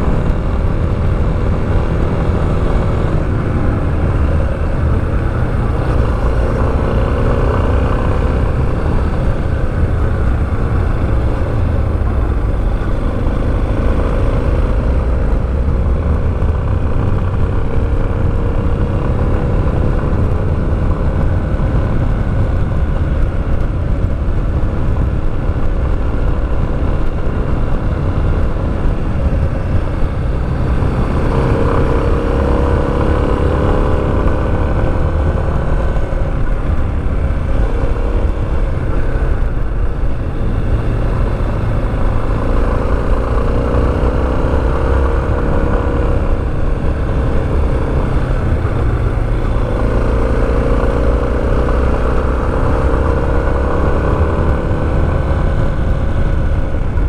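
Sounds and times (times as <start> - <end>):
motorcycle engine revving through gears: 0.0 - 57.0
wind and road noise: 0.0 - 57.0.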